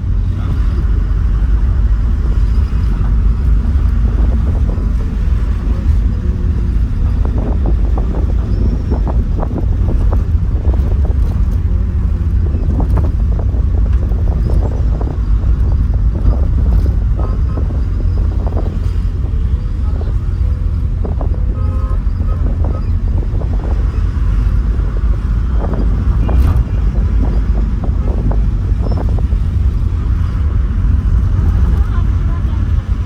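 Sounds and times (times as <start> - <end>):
taxi rumbling from inside: 0.0 - 33.0.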